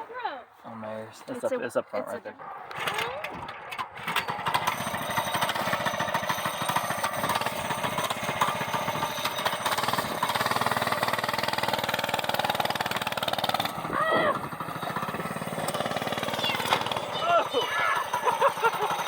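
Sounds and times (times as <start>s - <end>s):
engine running with clatter: 2.7s - 19.0s.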